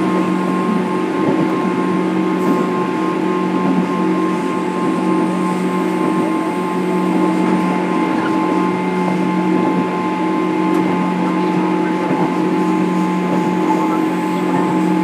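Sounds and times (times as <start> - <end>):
constant rumble: 0.0 - 15.0
train cabin hum with tones: 0.0 - 15.0.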